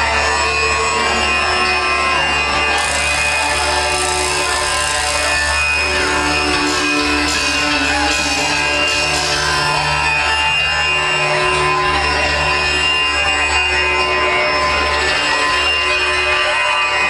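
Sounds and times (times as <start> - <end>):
loud live concert music: 0.0 - 17.0.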